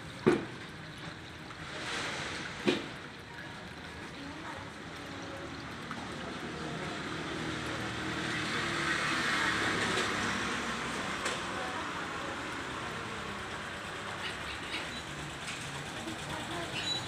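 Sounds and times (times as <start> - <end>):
water fountain trickling and splashing: 0.0 - 17.0.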